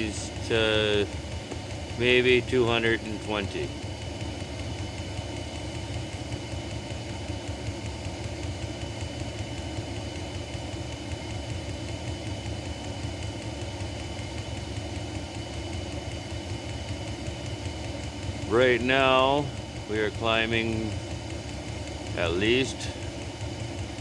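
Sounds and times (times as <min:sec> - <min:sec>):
heater burner humming: 0:00.0 - 0:24.0.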